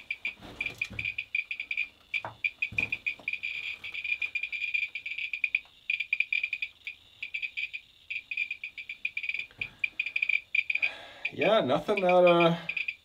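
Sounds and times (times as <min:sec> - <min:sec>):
geiger counter clicking fast: 0:00.0 - 0:13.0.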